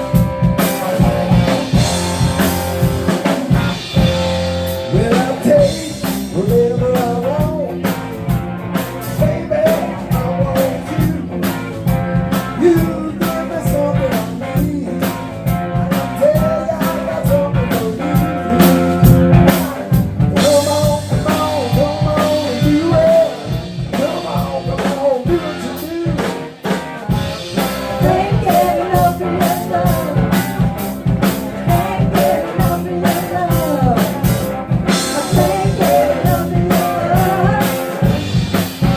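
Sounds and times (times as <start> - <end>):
live blues-rock band: 0.0 - 38.9.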